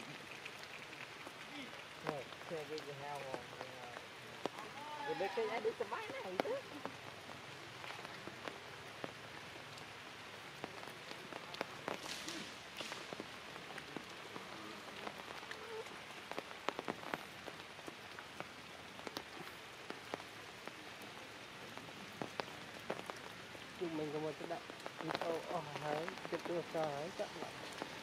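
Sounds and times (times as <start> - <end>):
light rain on leaves: 0.0 - 28.0
water drips: 0.0 - 28.0.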